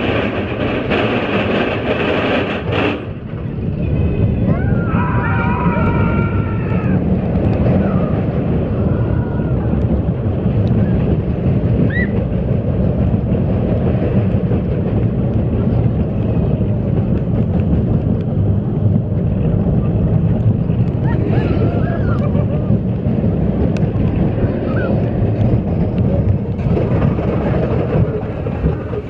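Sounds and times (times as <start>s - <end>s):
roller coaster cars rumbling: 0.0s - 29.0s.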